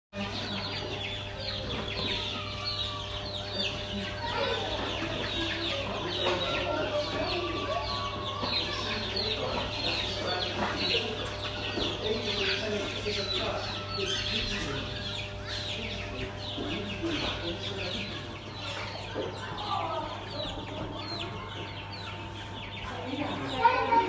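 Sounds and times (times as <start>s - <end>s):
chicks cheeping: 0.2s - 24.0s.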